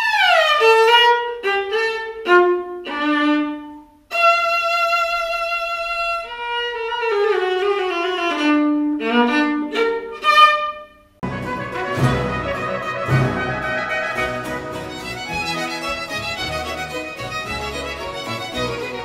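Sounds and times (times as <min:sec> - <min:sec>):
bowed viola: 0:00.0 - 0:19.0.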